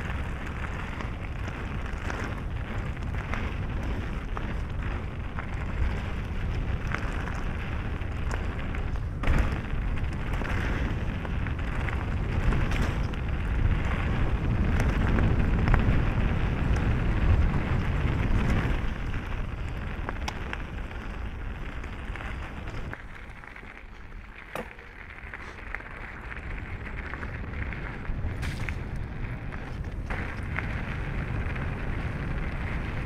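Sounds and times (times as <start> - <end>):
wind rushing over microphone: 0.0 - 23.0, 24.6 - 33.0
bike clicks and rattles: 0.0 - 33.0
tyres rolling on dirt trail: 0.0 - 33.0.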